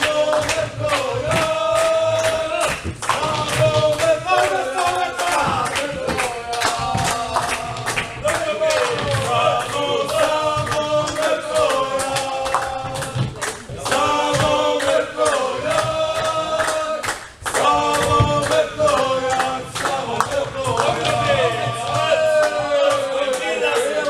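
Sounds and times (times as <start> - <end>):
fast regular sharp knocks: 0.0 - 23.5
group of voices chanting: 0.0 - 24.0.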